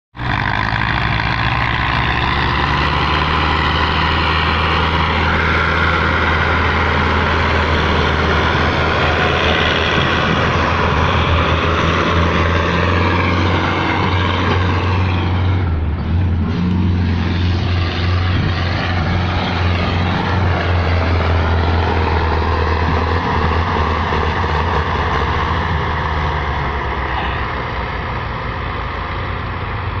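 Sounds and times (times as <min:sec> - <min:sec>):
tractor diesel engines running: 0:00.1 - 0:30.0.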